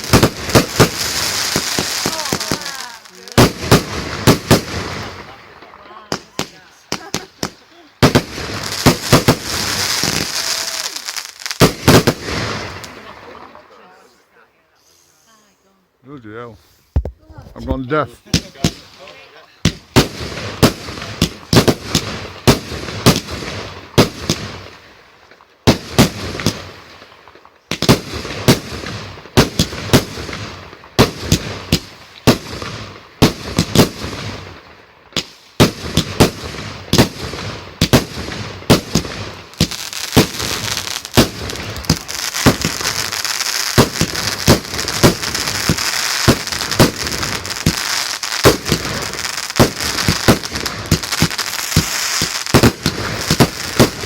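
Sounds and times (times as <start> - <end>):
fireworks bangs: 0.0 - 13.9, 18.2 - 54.0
dense fireworks crackle: 0.0 - 14.2, 17.6 - 54.0.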